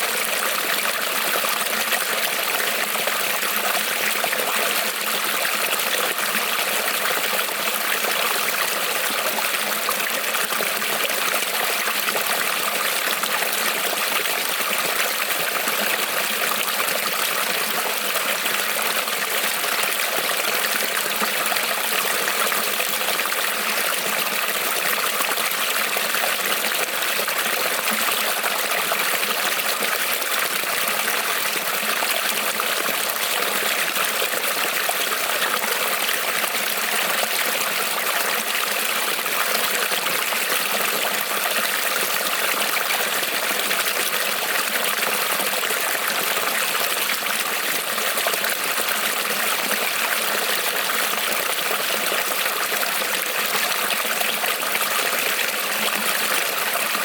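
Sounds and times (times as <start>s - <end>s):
creek water trickling over stones: 0.0s - 57.0s.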